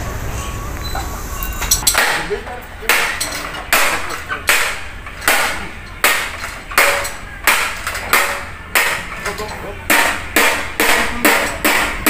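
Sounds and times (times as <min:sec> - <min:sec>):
hammer on metal: 0:01.8 - 0:12.0.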